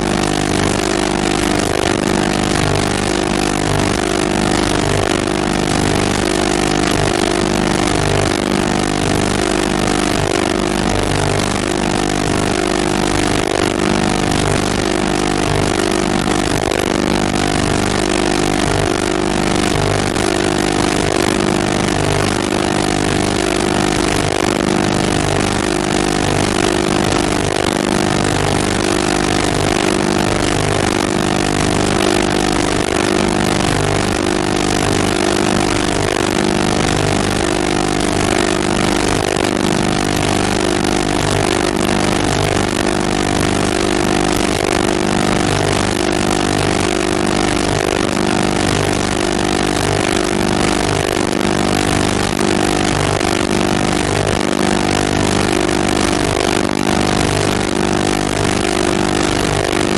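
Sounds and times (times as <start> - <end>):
steady mechanical drone: 0.0 - 59.9.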